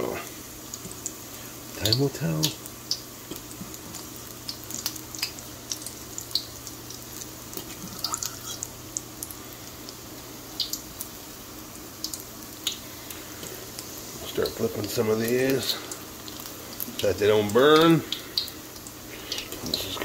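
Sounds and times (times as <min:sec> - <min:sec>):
fritters deep-frying in oil: 0:00.0 - 0:20.0.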